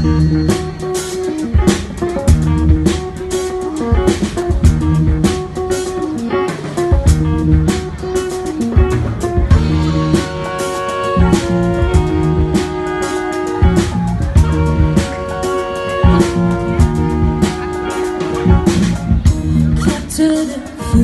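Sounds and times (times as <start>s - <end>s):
saxophones: 0.0s - 19.8s
drum kit beat: 0.0s - 21.0s
live band playing instrumental: 0.0s - 21.0s.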